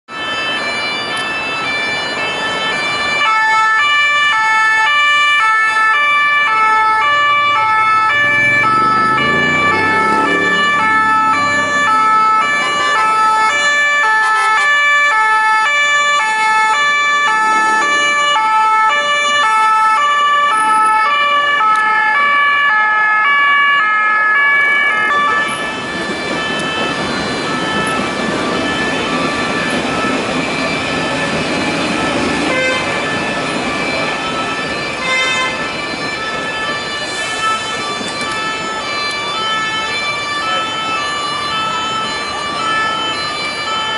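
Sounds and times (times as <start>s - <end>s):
city traffic noise: 0.0s - 43.9s
two-tone police sirens: 0.1s - 43.9s.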